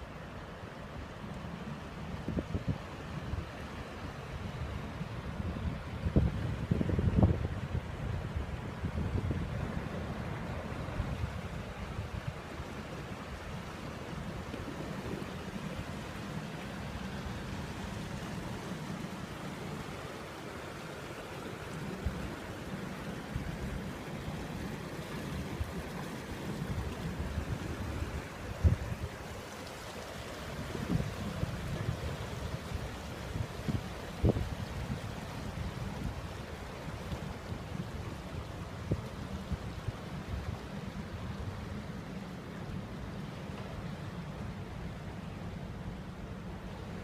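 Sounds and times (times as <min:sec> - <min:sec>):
river water flowing: 0:00.0 - 0:47.0
wind rumbling on microphone: 0:00.0 - 0:47.0.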